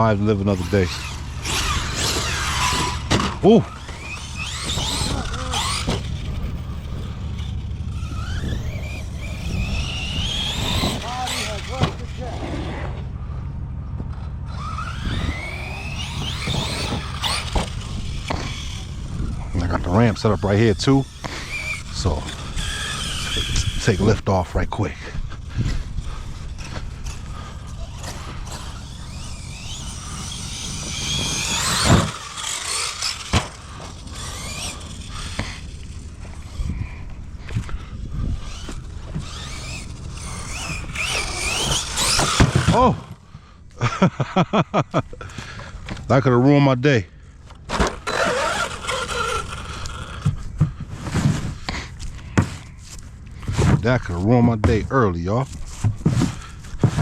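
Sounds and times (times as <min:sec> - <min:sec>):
electric motor whining: 0:00.0 - 0:43.6, 0:47.4 - 0:57.0
scraping: 0:00.1 - 0:13.1, 0:14.0 - 0:43.2, 0:47.5 - 0:57.0.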